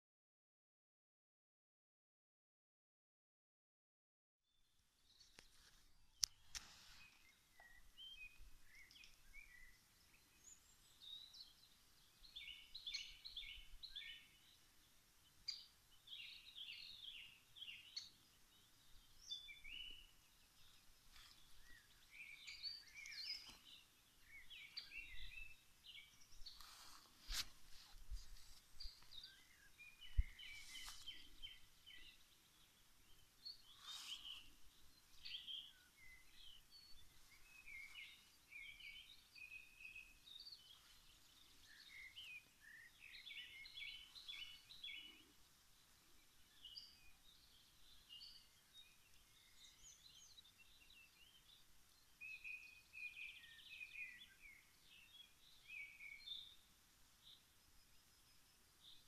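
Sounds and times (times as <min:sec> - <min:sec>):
songbirds chirping: 0:04.5 - 0:59.0.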